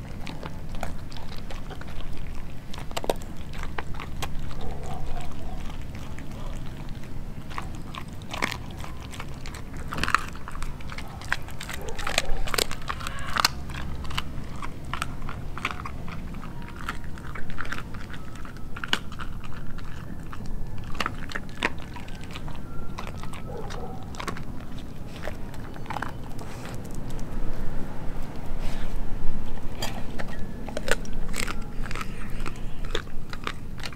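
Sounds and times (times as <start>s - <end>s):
dog chewing and crunching food: 0.0s - 33.9s.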